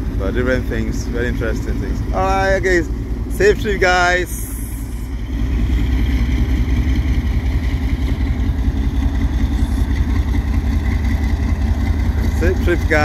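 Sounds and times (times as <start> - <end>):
train rolling past rumble: 0.0 - 13.0.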